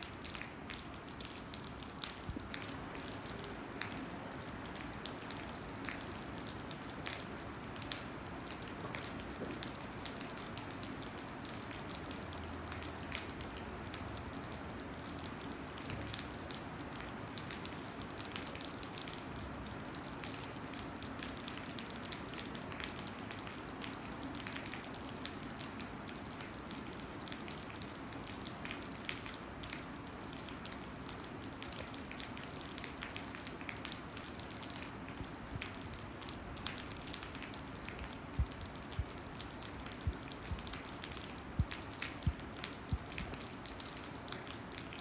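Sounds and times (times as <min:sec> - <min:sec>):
raindrops ticking on a surface: 0:00.0 - 0:45.0
steady rain: 0:00.0 - 0:45.0.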